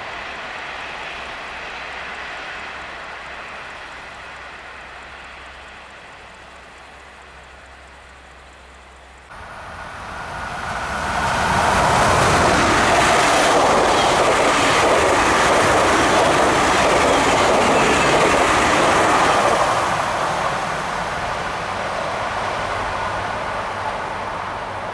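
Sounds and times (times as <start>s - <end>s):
electric trains passing at speed: 0.0s - 24.9s.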